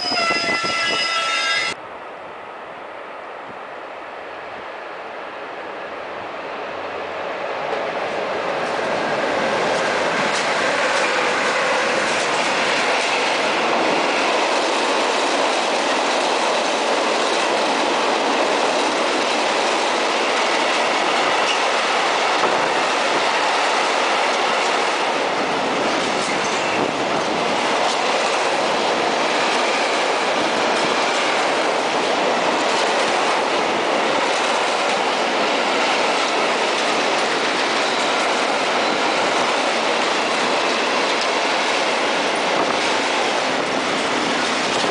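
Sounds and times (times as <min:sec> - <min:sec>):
freight train rolling past: 0:00.0 - 0:44.9.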